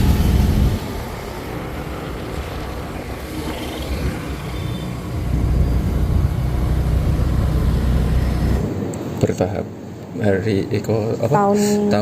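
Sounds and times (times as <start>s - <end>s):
passing traffic rumble: 0.0s - 10.2s.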